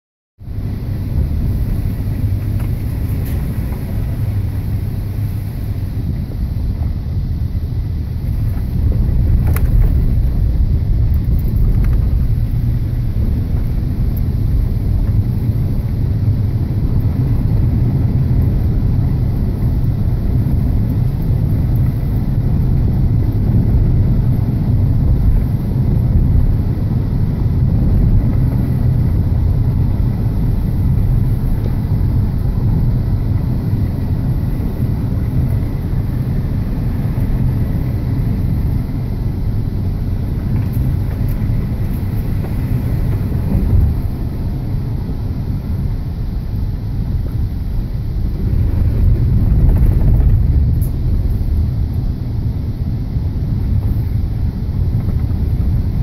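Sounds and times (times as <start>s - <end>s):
vehicle engine rumble: 0.4s - 56.0s.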